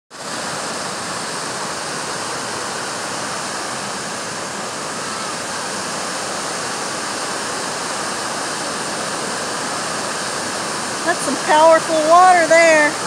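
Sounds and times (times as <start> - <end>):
river rushing over rapids: 0.1 - 13.0.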